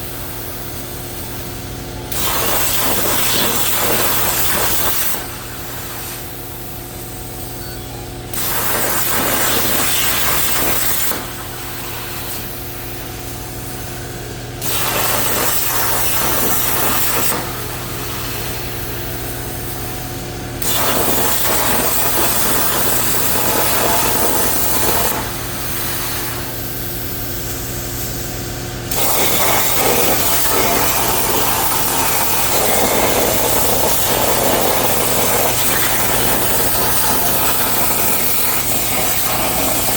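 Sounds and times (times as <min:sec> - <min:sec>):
plasma cutter arc hissing: 0:00.0 - 0:14.0, 0:14.6 - 0:20.0, 0:20.6 - 0:39.9.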